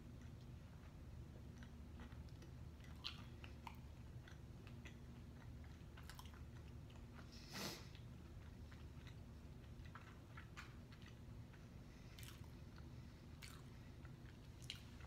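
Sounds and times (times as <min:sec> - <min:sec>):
faint chewing: 0:00.0 - 0:15.0.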